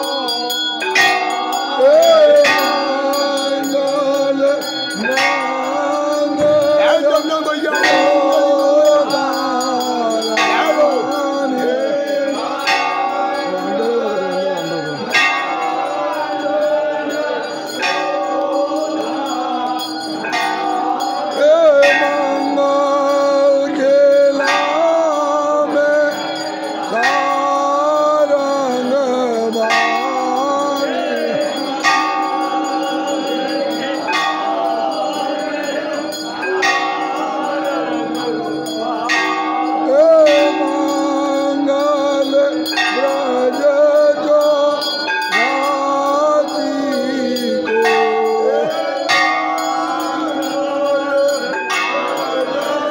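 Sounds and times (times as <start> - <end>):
devotional song singing: 0.0 - 52.9
temple bell strokes: 0.0 - 52.9.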